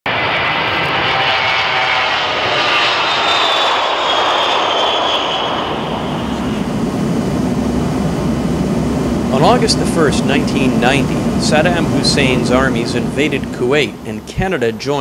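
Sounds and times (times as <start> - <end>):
deep rumble: 0.1 - 15.0
jet engines roaring at takeoff: 0.1 - 15.0.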